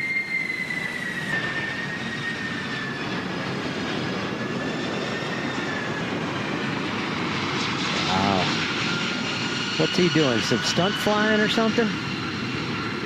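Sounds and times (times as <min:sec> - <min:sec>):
high jet whine falling in pitch: 0:00.0 - 0:13.0
jet engines passing overhead: 0:00.0 - 0:13.0.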